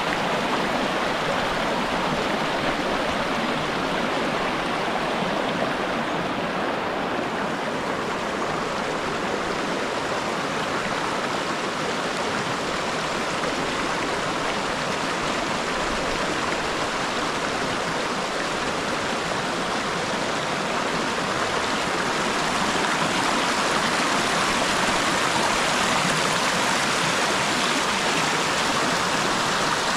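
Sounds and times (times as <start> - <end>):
water rushing over rocks: 0.0 - 29.9.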